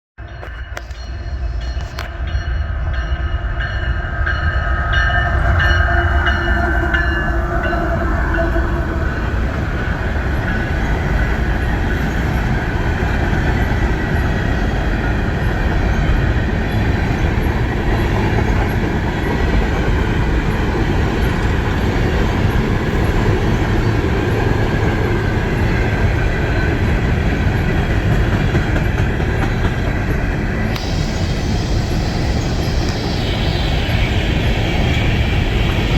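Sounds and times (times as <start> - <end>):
diesel locomotive rumble: 5.5 - 35.9.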